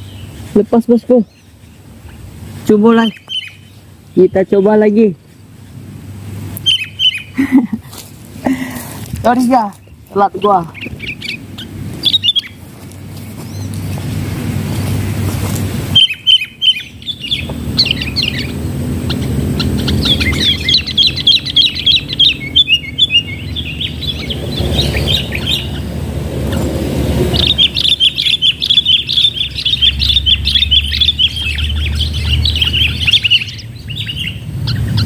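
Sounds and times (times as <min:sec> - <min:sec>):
birds chattering: 0:00.0 - 0:35.0.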